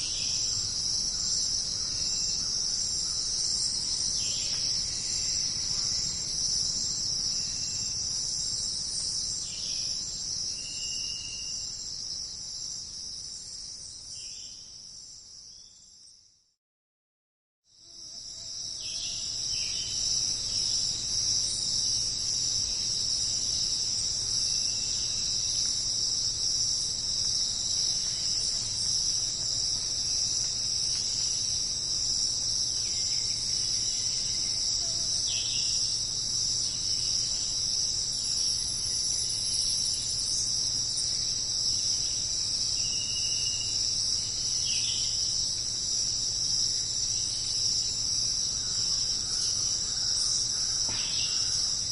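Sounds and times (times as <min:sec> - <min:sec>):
high-pitched insect chorus: 0:00.0 - 0:16.2, 0:17.7 - 0:51.9.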